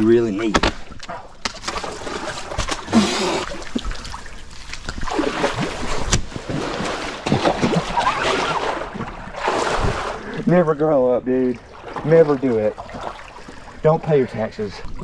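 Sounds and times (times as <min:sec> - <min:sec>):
river water splashing: 0:01.5 - 0:15.0.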